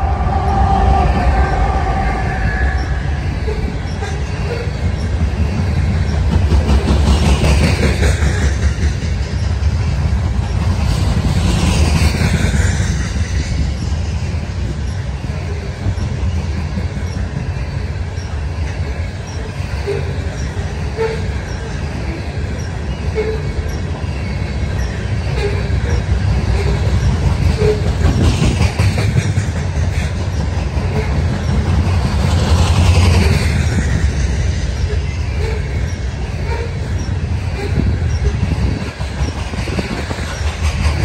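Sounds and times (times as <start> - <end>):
wheel squeal: 0.0 - 9.6, 14.8 - 29.2, 30.2 - 41.0
rail clicks: 0.0 - 41.0
train wheels rumbling on rails: 0.0 - 41.0.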